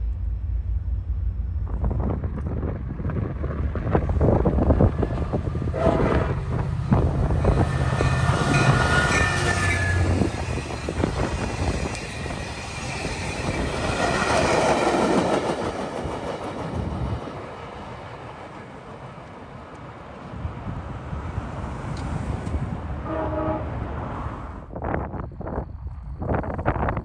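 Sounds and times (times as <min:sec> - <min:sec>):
locomotive engine humming: 0:00.0 - 0:24.5.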